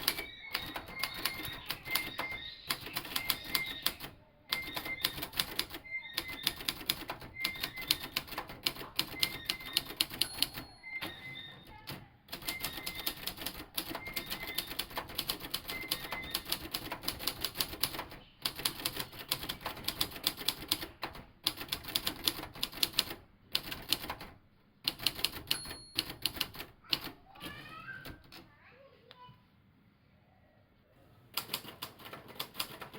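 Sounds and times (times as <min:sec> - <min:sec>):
typewriter key strikes: 0:00.0 - 0:24.3, 0:24.9 - 0:28.4, 0:31.4 - 0:32.9.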